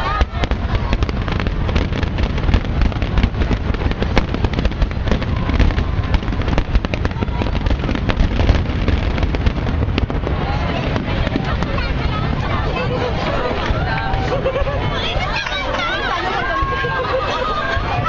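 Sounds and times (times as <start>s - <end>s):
fireworks bangs and crackles: 0.0s - 18.0s
low rumble: 0.0s - 18.0s.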